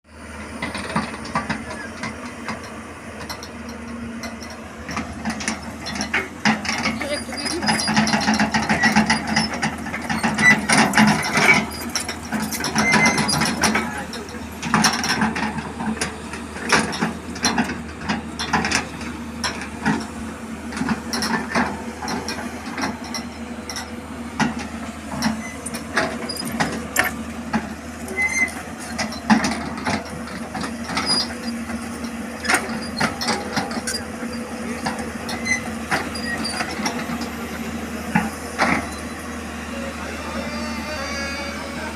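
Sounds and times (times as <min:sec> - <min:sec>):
excavator engine hum: 0:00.1 - 0:41.9
metallic clanks and clicks: 0:00.6 - 0:34.2.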